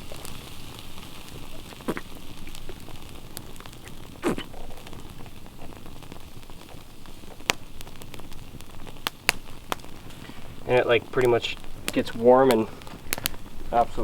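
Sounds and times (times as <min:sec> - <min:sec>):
campfire crackling and popping: 0:00.0 - 0:14.0
patties sizzling on a grill: 0:00.0 - 0:14.0.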